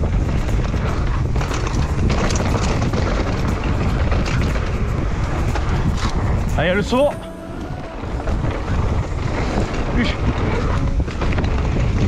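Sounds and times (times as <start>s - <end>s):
bike rattling and knocking: 0.0s - 7.0s, 8.4s - 12.0s
wind on camera microphone: 0.0s - 12.0s.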